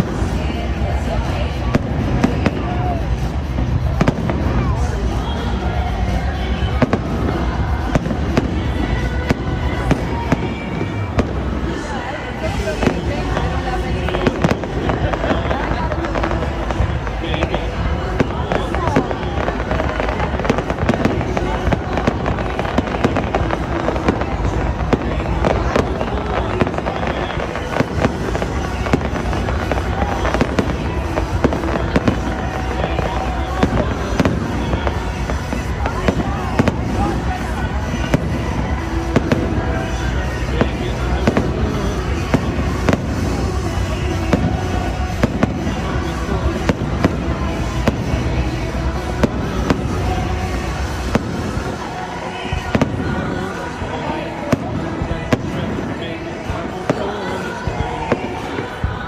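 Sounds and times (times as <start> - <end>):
fireworks bangs and crackles: 0.0 - 59.0
music playing: 0.0 - 59.0.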